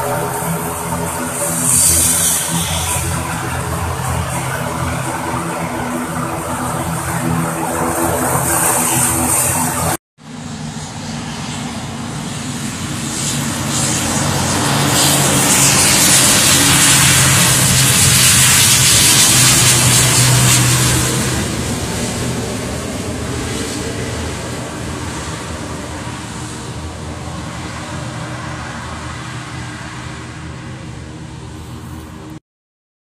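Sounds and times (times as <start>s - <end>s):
turboprop airliner propeller drone: 0.0s - 32.4s.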